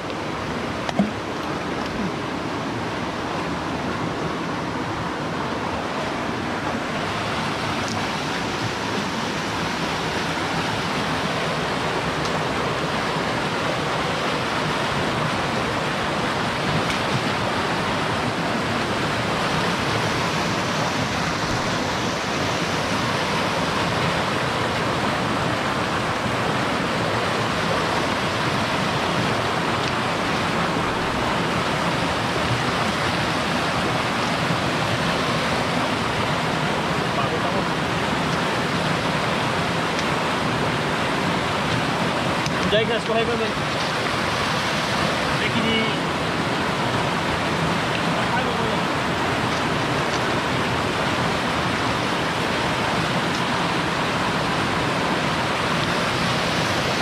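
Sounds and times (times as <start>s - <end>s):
river water rushing over rapids: 0.0s - 57.0s.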